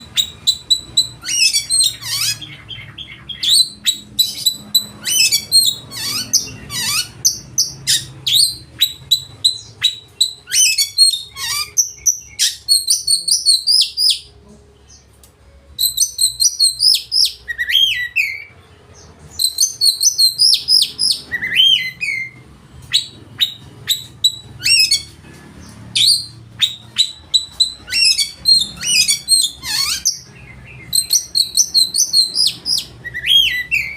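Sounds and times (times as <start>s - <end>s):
songbird singing: 0.0s - 15.1s, 15.7s - 33.9s.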